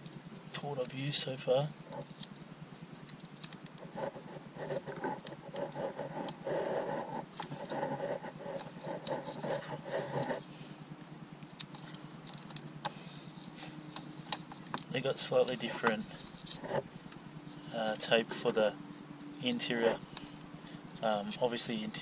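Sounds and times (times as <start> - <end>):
tape rustling: 1.9 - 10.5, 11.3 - 21.4.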